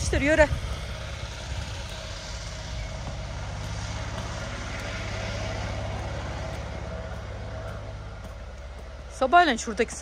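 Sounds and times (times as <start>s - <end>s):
motor humming: 0.0s - 9.4s.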